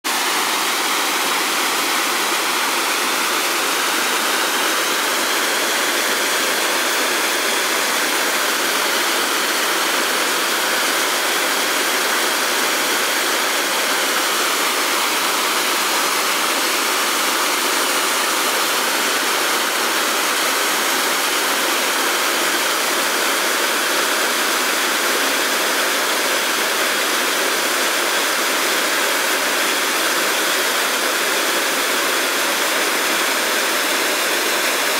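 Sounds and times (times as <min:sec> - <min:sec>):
small waterfall splashing: 0:00.0 - 0:34.9.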